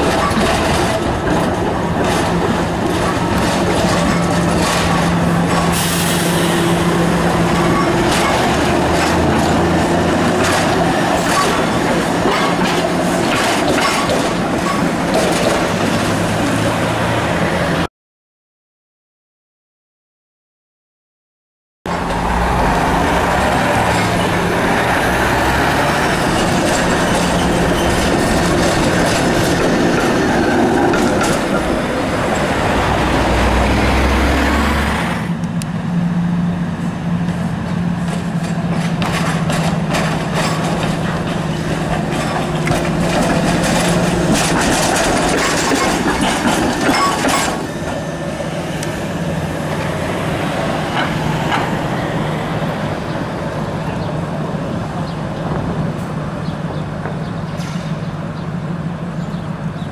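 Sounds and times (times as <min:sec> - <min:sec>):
road traffic: 0:00.0 - 0:17.9, 0:21.9 - 0:59.9
streetcar humming: 0:00.0 - 0:17.9, 0:21.9 - 0:59.9.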